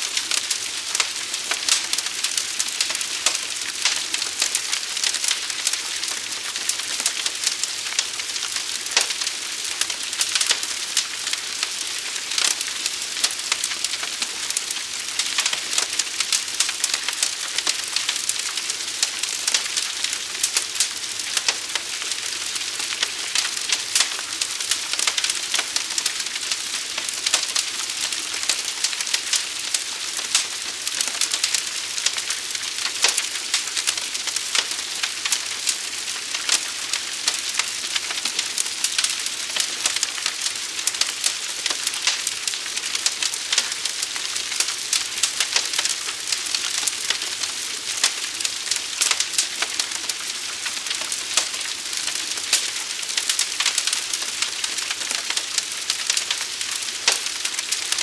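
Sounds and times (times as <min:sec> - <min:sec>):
fire hissing and crackling: 0:00.0 - 0:58.0.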